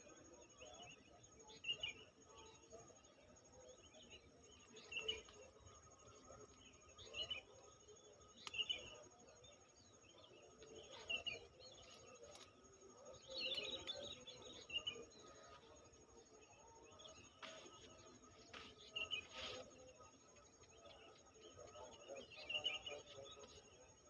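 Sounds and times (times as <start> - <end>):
faint outdoor background noise: 0.0 - 24.0
small birds chirping: 0.0 - 24.0.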